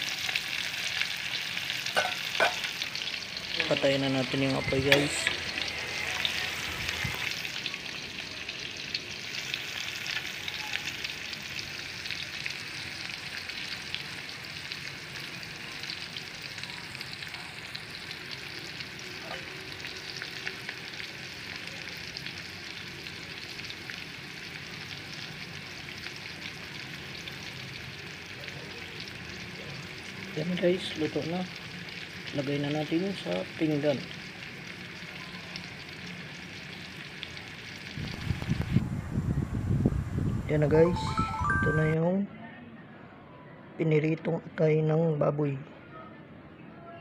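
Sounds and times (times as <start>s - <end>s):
liver sizzling in hot oil: 0.0s - 38.8s.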